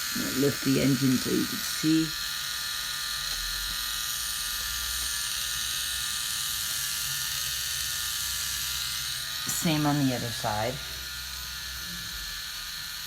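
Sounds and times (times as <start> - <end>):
small electric motor whirring: 0.0 - 13.0.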